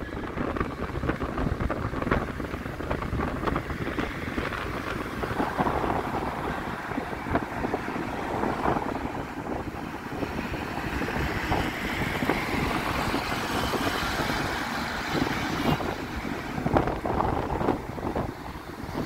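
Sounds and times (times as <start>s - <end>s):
bus engine and road rumble: 0.0s - 19.0s
wind buffeting microphone: 0.0s - 19.0s.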